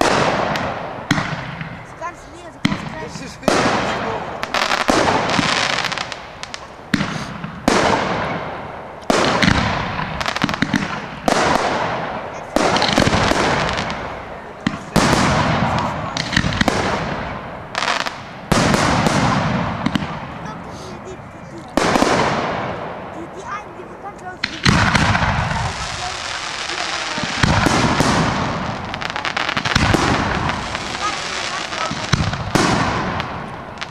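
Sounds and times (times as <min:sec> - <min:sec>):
firework shells bursting: 0:00.0 - 0:20.5, 0:24.4 - 0:33.9
firework crackle: 0:00.0 - 0:33.9.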